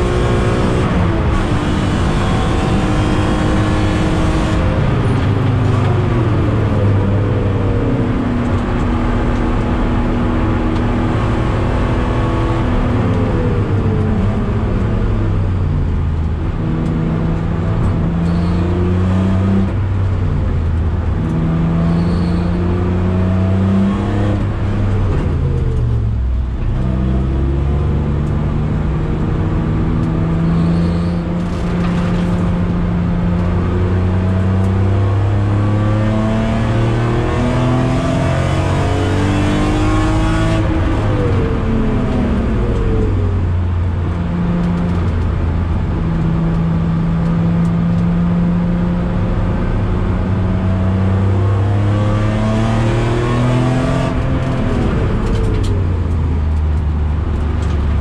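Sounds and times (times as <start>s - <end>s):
car engine revving through gears: 0.0s - 58.0s.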